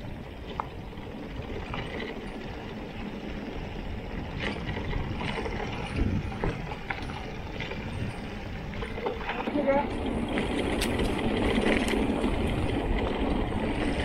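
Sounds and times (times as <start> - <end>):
bike rattling over bumps: 0.0 - 14.0
bike tyres rumbling on dirt: 0.0 - 14.0.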